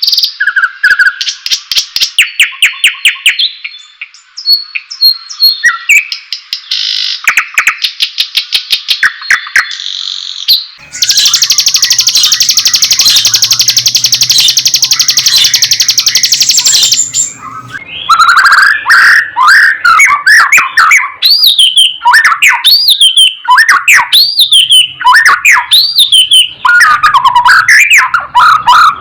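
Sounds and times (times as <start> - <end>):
bird singing trills and whistles: 0.0 - 29.0.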